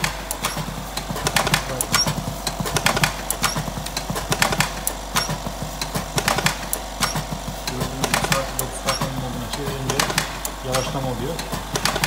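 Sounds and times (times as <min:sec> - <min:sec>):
machine motor hum: 0:00.0 - 0:12.0
sharp mechanical clacks: 0:00.0 - 0:12.0.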